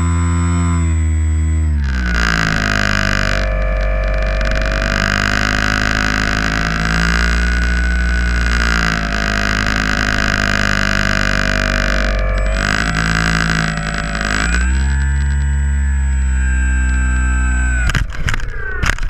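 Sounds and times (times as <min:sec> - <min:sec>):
electric motor and propeller whine: 0:00.0 - 0:19.0.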